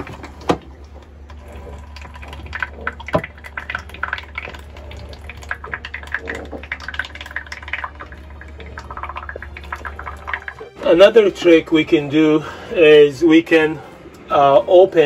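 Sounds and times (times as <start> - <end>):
oil dripping into plastic tank: 0.0 - 12.5.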